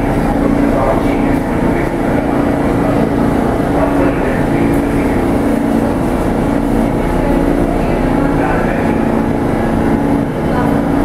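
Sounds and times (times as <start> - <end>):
low equipment hum: 0.0 - 11.0
subway train droning in station: 0.0 - 11.0.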